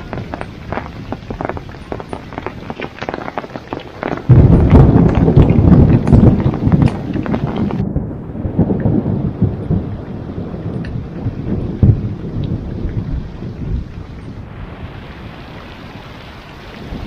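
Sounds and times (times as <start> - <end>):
deep rumble: 0.0 - 17.0
heavy rain pouring: 0.0 - 17.0.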